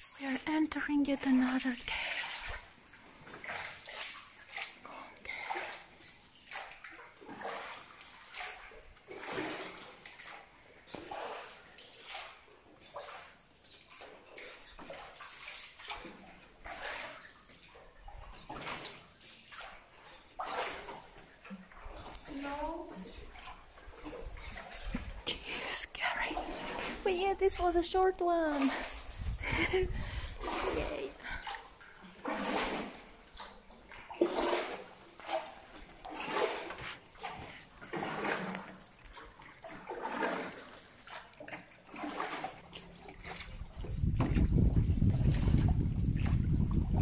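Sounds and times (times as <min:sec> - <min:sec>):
oars splashing through water: 0:00.0 - 0:47.0.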